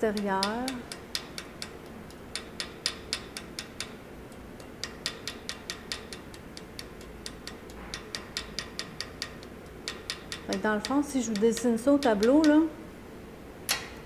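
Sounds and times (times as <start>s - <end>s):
small hammer tapping metal: 0.0s - 12.8s, 13.7s - 14.0s.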